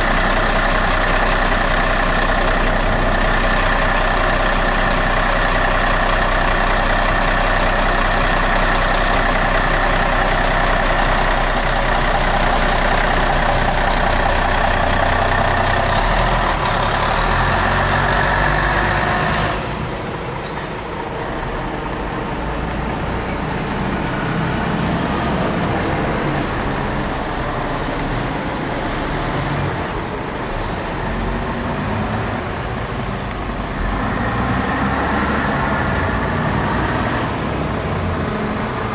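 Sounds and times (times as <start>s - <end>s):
bus diesel engine running: 0.0s - 38.9s
traffic noise: 0.0s - 38.9s.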